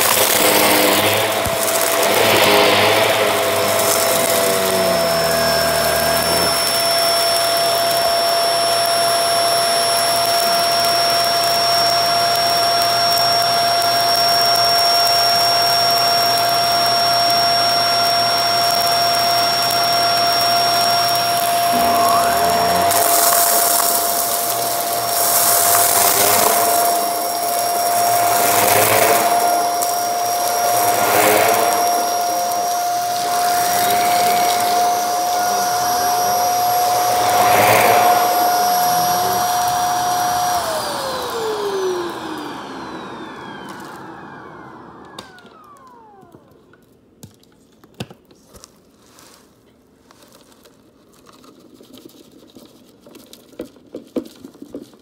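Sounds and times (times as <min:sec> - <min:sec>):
vacuum cleaner motor whine: 0:00.0 - 0:46.9.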